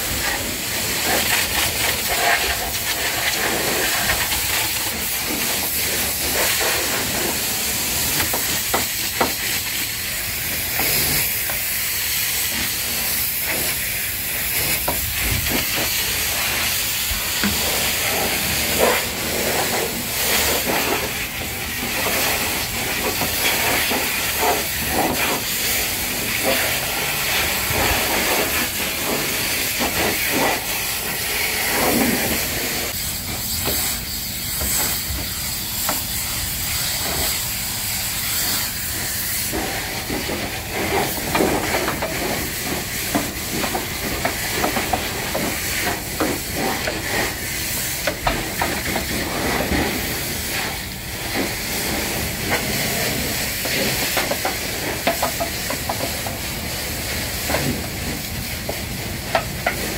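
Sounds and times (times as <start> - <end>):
pressure washer spraying water: 0.0 - 59.9.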